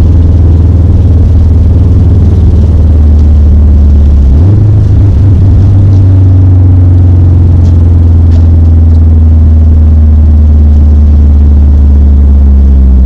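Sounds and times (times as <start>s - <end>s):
car engine running loudly: 0.0s - 13.0s.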